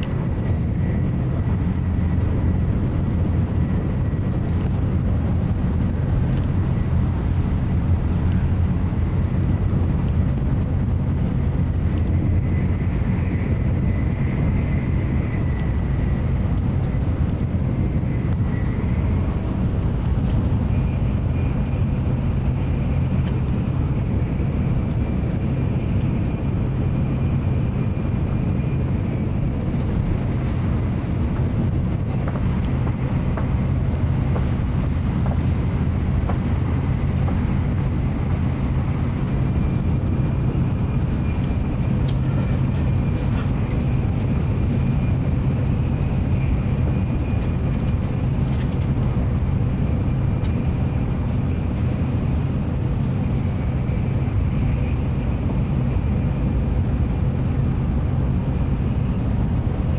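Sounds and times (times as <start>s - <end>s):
train cabin rumble and hum: 0.0s - 59.9s.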